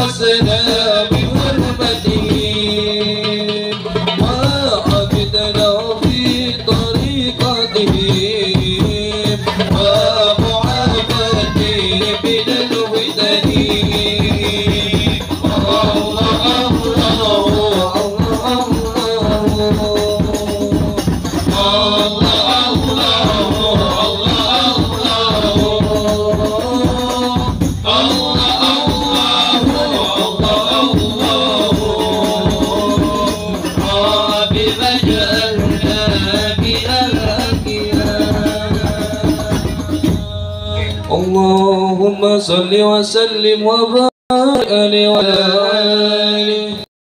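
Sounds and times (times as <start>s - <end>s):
frame drums with jingles: 0.0s - 42.0s
men singing in unison: 0.0s - 46.9s.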